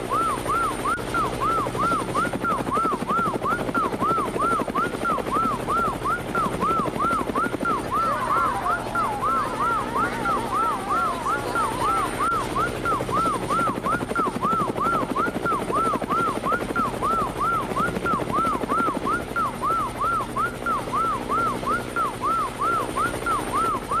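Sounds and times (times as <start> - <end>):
helicopter rotor chop: 0.0 - 24.0
police siren yelping: 0.0 - 24.0.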